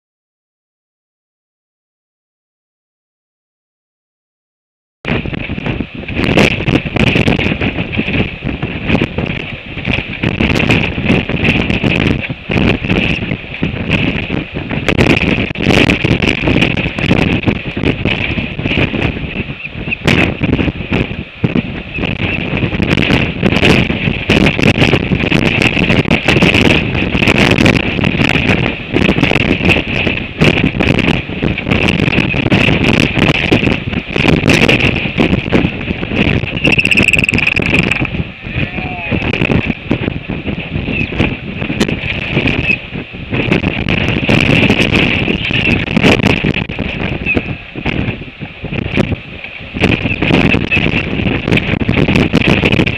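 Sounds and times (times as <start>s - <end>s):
wind buffeting microphone: 5.0s - 52.9s.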